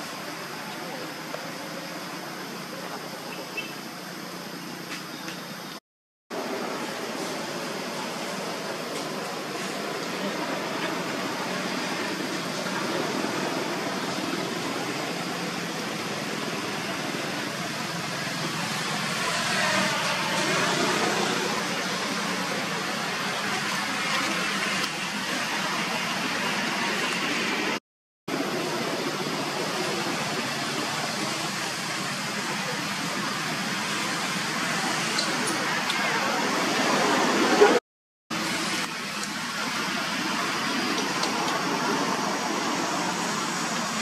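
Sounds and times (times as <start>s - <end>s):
outdoor background hiss: 0.0s - 37.6s.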